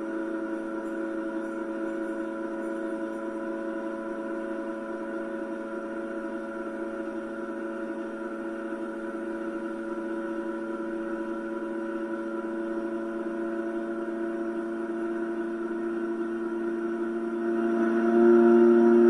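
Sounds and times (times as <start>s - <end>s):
simulated car engine drone: 0.0s - 19.0s.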